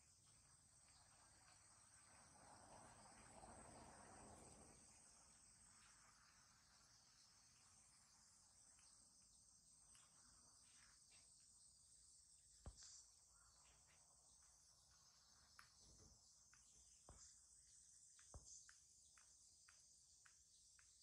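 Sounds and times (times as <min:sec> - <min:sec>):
faint insect chirring: 0:00.0 - 0:21.0.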